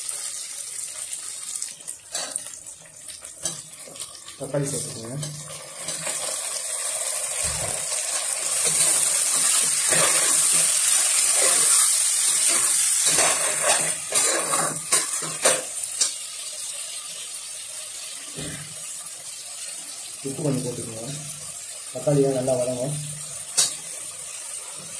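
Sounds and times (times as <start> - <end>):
tomatoes sizzling in hot oil: 0.0 - 24.9.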